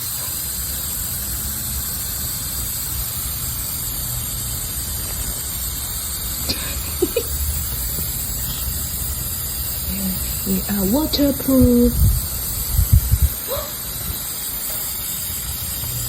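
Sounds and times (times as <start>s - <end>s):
shower water spraying: 0.0s - 16.0s.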